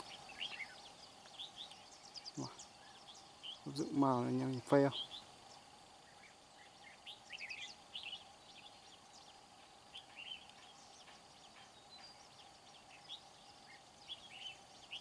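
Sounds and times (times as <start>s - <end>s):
bird chirps: 0.0s - 15.0s
faint steady hum: 0.0s - 15.0s.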